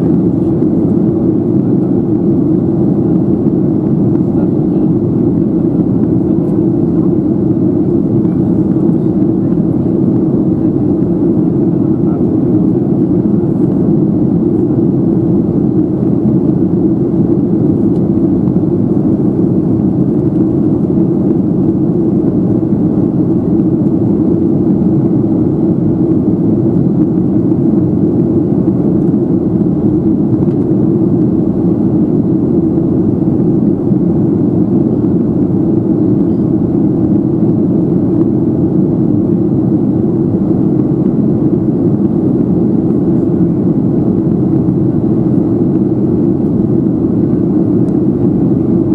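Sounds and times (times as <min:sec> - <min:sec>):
jet engines humming: 0:00.0 - 0:48.9.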